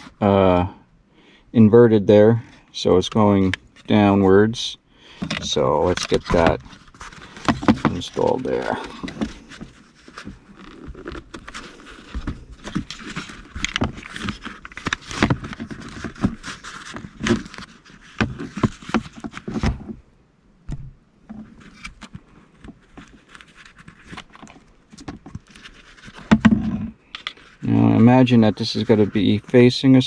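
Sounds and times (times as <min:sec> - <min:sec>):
rubber boot rubbing and scraping: 0:05.2 - 0:20.0, 0:20.7 - 0:30.0.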